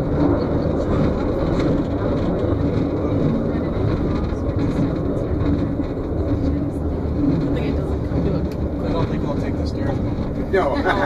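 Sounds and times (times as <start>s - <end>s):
elevator machinery rumble: 0.0s - 11.0s.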